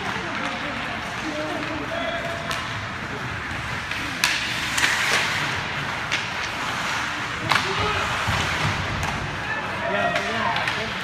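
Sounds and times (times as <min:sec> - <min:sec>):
hockey sticks and puck clacking: 0:00.0 - 0:11.0
skate blades scraping ice: 0:00.0 - 0:11.0.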